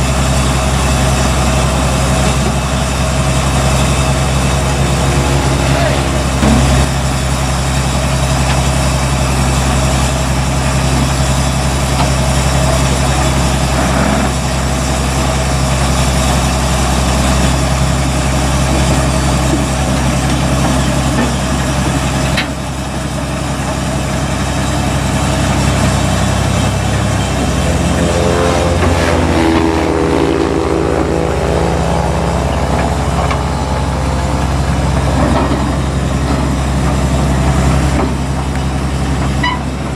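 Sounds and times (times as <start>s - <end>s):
combine harvester engine running: 0.0s - 39.9s
shifting whine: 0.0s - 39.9s.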